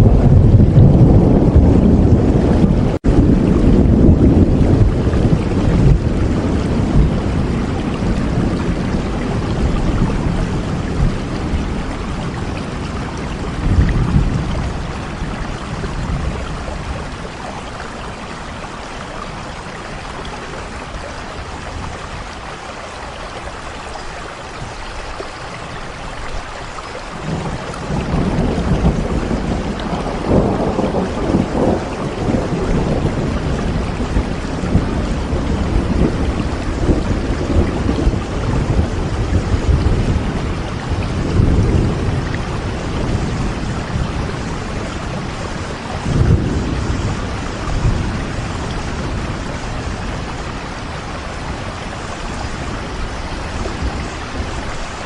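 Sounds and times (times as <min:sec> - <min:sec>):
rolling thunder: 0:00.0 - 0:22.6, 0:24.6 - 0:55.0
steady rain: 0:00.0 - 0:55.0.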